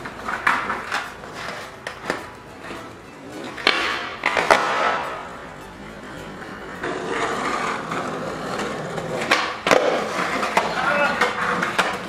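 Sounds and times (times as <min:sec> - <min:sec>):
skateboard clacking on asphalt: 0:00.0 - 0:12.0
skateboard wheels rolling: 0:00.0 - 0:12.0.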